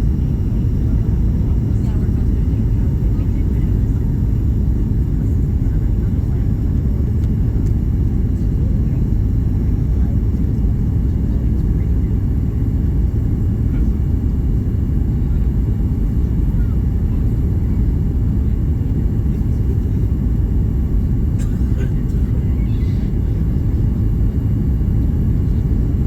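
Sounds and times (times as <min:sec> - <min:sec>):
jet airliner cabin rumble: 0:00.0 - 0:26.0.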